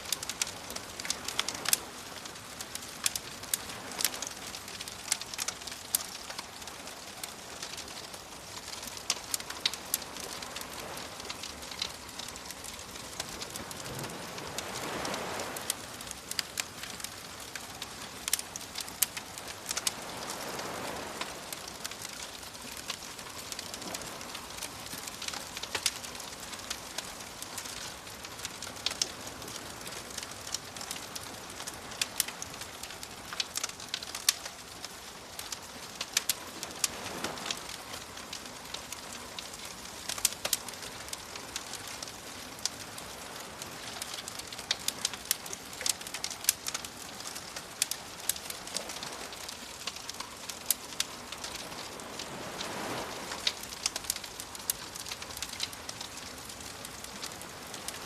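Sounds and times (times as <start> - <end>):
bonfire crackling and popping: 0.0 - 58.0
waves washing in: 0.0 - 58.0.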